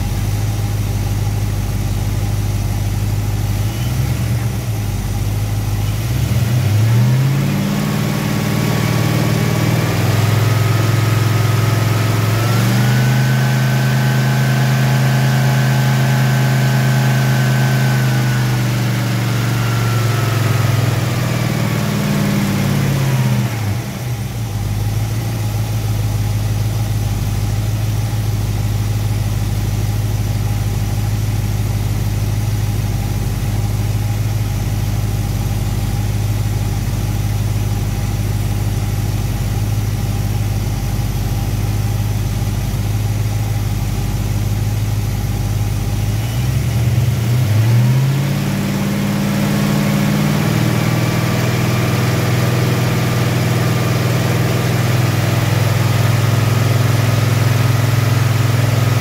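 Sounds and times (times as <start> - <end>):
car engine running at raised revs: 0.0 - 59.0.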